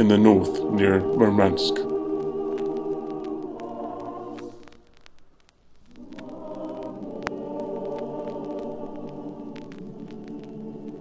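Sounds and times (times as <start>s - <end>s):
choral music: 0.0s - 5.1s, 5.8s - 11.0s.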